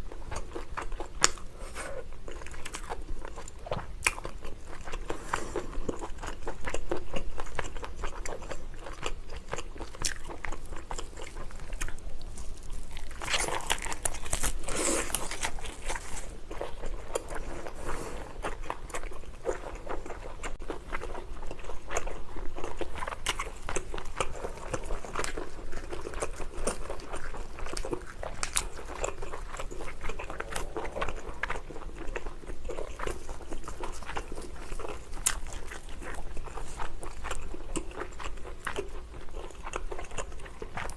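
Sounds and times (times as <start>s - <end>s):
person chewing: 0.0s - 40.9s.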